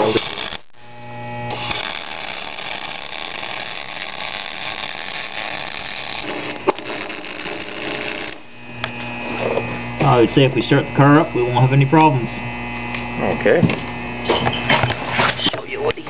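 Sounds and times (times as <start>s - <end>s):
welder arc crackling: 0.0s - 14.4s
steady hum: 0.0s - 16.0s.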